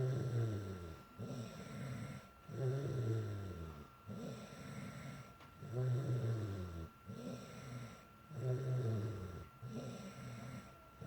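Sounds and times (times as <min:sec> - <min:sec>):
girl snoring: 0:00.0 - 0:11.0.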